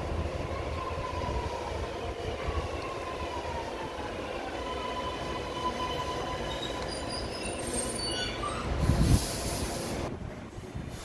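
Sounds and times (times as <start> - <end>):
train whining tones: 0.0 - 9.8.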